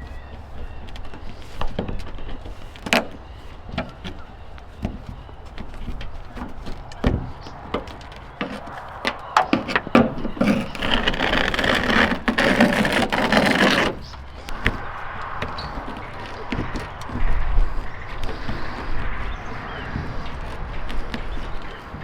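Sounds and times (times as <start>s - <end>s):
scraping or rubbing: 0.0s - 22.0s.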